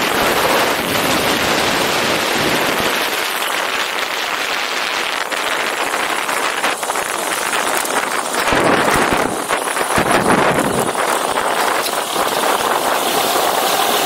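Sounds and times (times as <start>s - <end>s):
light aircraft engine and propeller: 0.0s - 14.0s.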